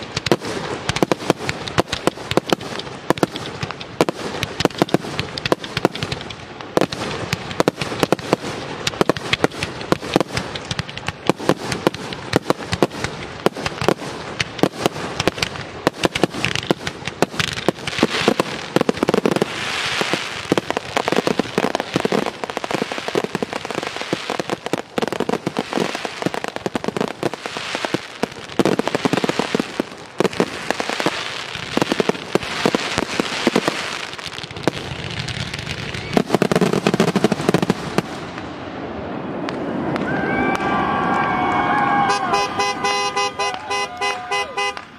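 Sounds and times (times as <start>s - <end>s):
fireworks bangs: 0.0s - 44.9s
fireworks crackling: 0.0s - 44.9s.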